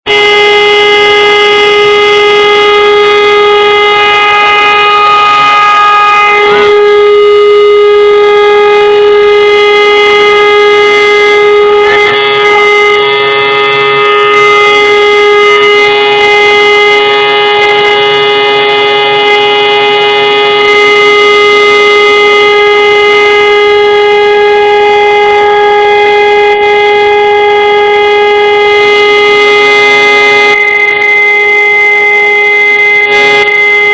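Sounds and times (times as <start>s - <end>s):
siren steady tone: 0.0s - 33.9s.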